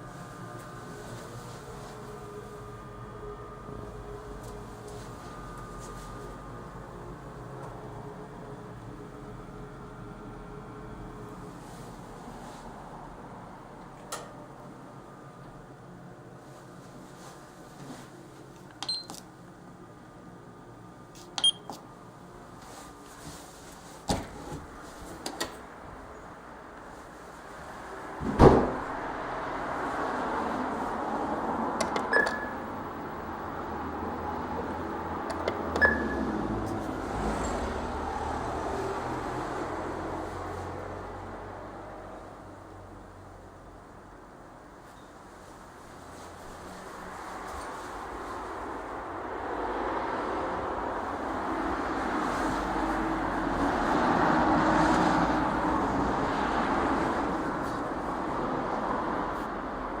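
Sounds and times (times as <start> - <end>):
road vehicle passing by: 0.0 - 60.0.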